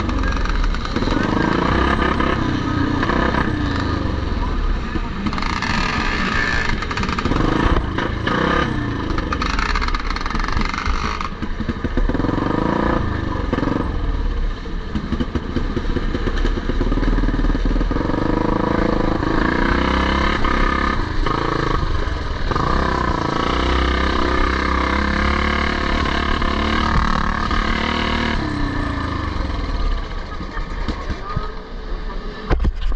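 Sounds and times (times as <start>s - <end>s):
motorcycle engines revving: 0.0s - 32.8s.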